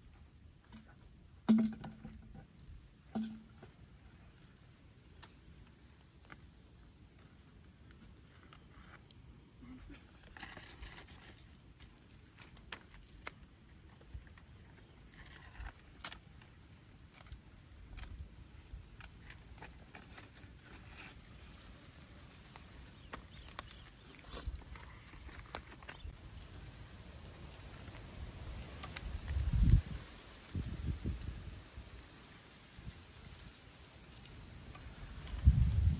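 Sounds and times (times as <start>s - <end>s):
charcoal embers crackling: 0.0s - 35.9s
insect chirping: 0.0s - 35.9s.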